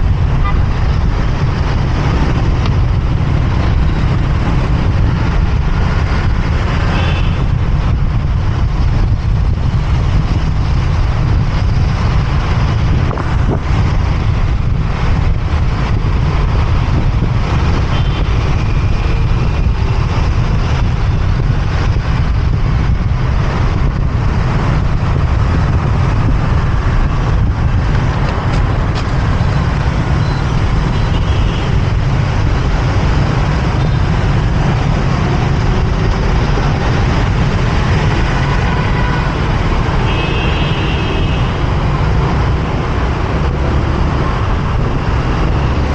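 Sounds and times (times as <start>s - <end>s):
city traffic: 0.0s - 45.9s
motorbike rumble: 0.0s - 45.9s.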